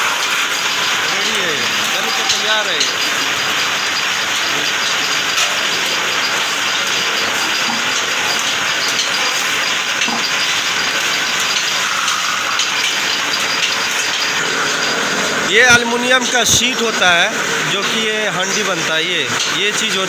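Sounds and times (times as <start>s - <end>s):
lathe running with hissing: 0.0s - 20.0s.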